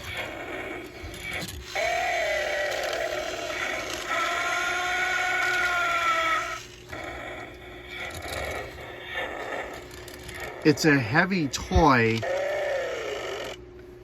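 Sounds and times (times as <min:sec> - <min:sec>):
toy dragon roar through speaker: 0:00.0 - 0:13.6
toy mechanical whirr: 0:00.0 - 0:13.6.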